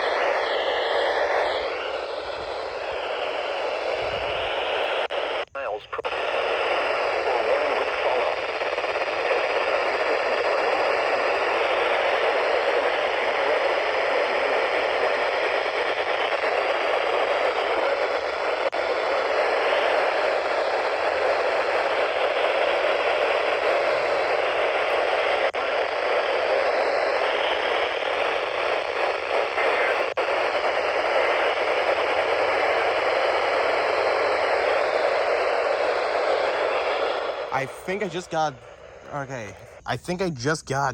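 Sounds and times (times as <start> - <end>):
radio static: 0.0 - 40.9.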